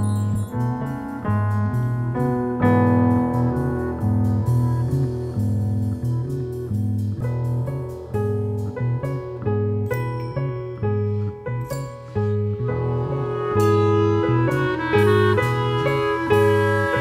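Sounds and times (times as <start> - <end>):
low bass line: 0.0 - 17.0
small instrumental ensemble: 0.0 - 17.0.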